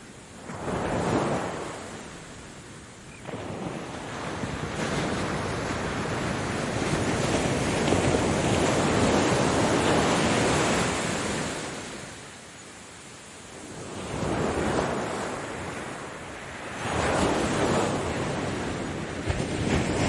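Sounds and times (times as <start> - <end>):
ocean waves: 0.0 - 20.0.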